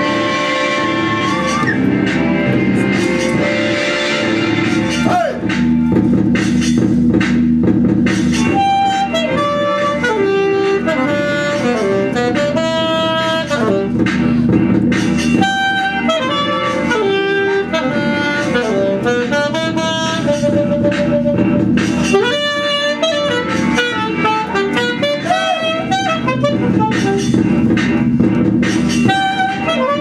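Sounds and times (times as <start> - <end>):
saxophone melody: 0.0 - 6.0, 8.2 - 30.0
low musical backing: 0.0 - 7.0, 7.8 - 30.0.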